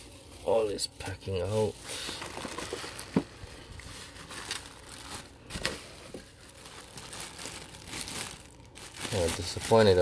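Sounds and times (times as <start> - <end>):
bubble wrap crinkling and rustling: 0.0 - 10.0.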